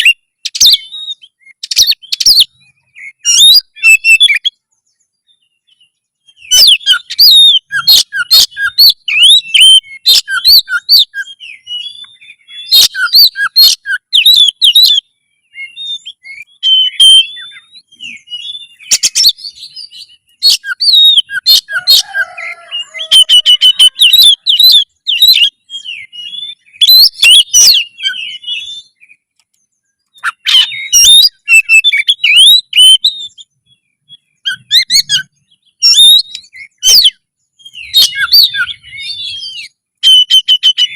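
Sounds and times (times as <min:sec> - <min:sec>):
bird singing whistles and chirps: 0:00.0 - 0:40.9.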